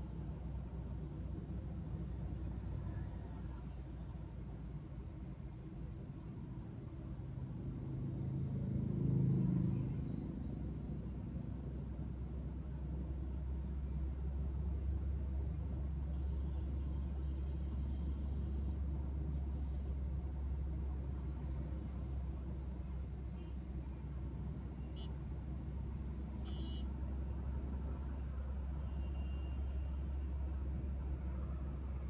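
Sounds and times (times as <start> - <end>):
road and engine rumble: 0.0 - 32.0.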